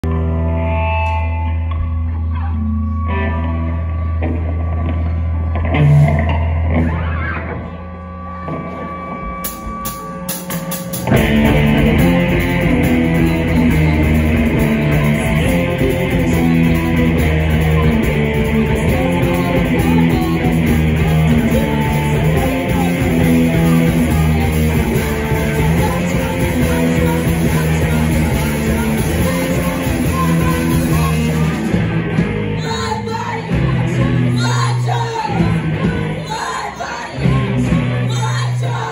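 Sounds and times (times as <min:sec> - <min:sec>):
electric guitar: 0:00.0 - 0:38.9
rock band playing: 0:00.0 - 0:38.9.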